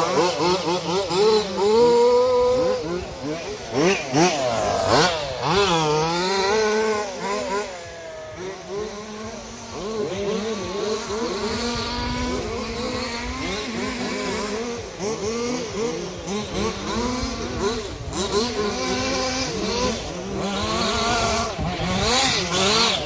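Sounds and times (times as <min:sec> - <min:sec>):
model car engines revving: 0:00.0 - 0:23.0.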